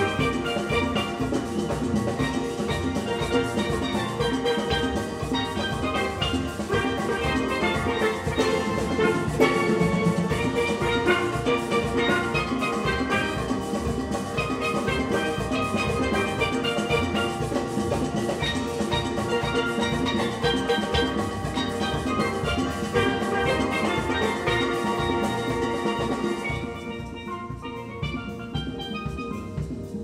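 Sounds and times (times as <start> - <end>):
steady drum beat: 0.0 - 30.0
steel pans playing melody: 0.0 - 30.0.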